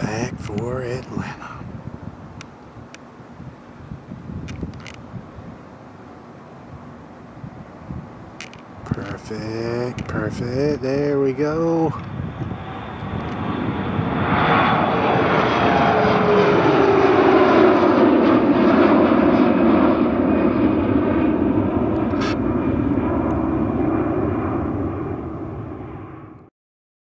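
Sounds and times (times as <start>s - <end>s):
jet engines roaring at takeoff: 0.0s - 26.5s.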